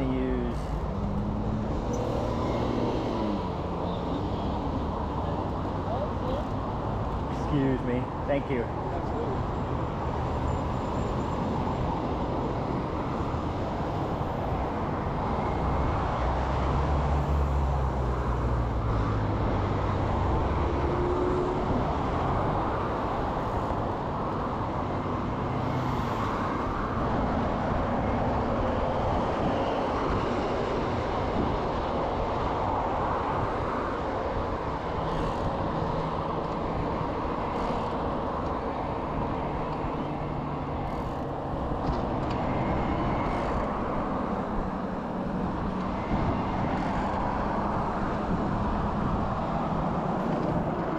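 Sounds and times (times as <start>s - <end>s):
road and traffic noise: 0.0s - 50.9s.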